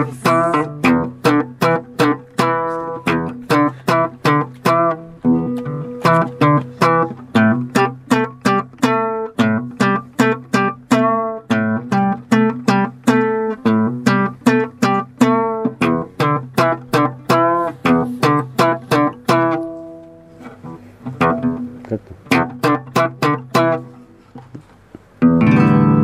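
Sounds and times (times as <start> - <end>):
plucked string instrument: 0.0 - 26.0.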